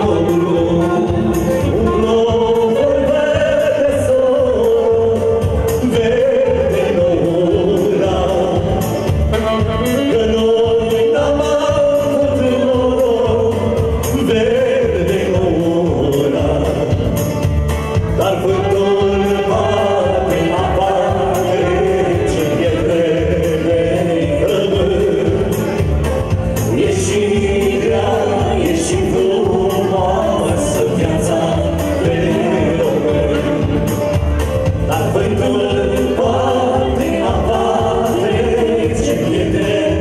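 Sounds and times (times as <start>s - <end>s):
saxophone: 0.0s - 14.7s, 16.8s - 40.0s
keyboard: 0.0s - 40.0s
people singing into microphones: 0.0s - 40.0s.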